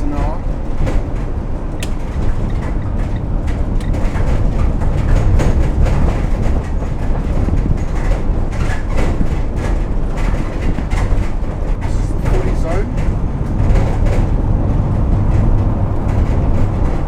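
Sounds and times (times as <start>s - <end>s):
van road noise rumble: 0.0s - 17.0s.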